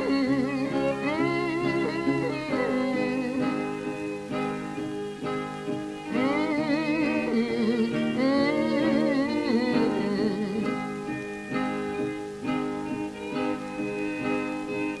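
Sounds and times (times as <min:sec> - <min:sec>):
acoustic guitar picking: 0:00.0 - 0:15.0
wavering sliding melody line: 0:00.0 - 0:15.0.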